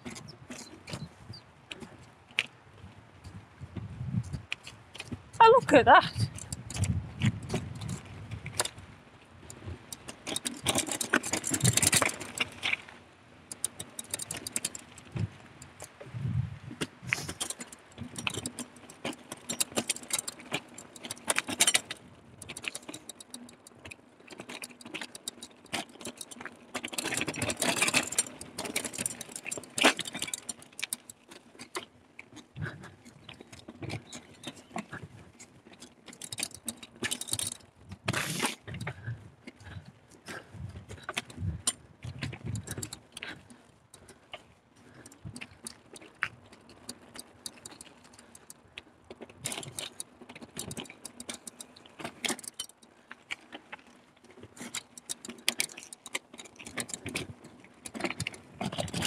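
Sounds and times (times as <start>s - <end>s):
tyre noise on rough trail: 0.0s - 59.0s
bike chain and frame rattling: 4.2s - 59.0s.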